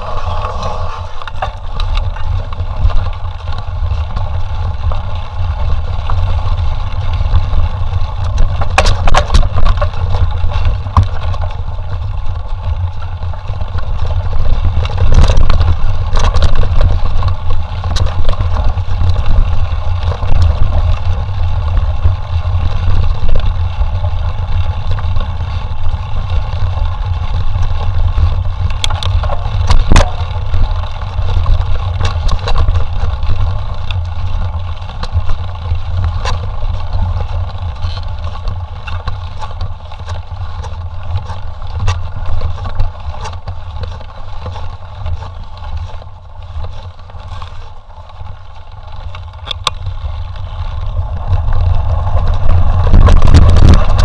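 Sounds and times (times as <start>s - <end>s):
wind buffeting microphone: 0.0s - 47.5s, 48.8s - 54.0s
bike clicks and rattles: 0.0s - 54.0s.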